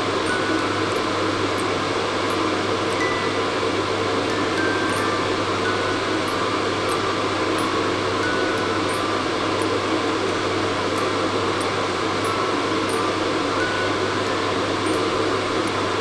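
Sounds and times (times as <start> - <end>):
faint high chiming notes: 0.2 - 16.0.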